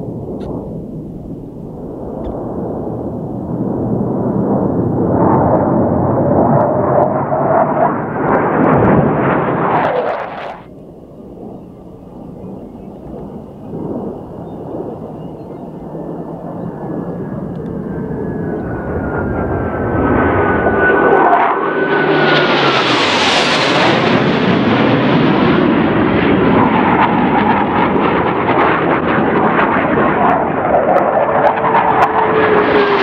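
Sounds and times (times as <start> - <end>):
jet engine whine falling in pitch: 0.0 - 33.0
jet roar: 0.0 - 33.0.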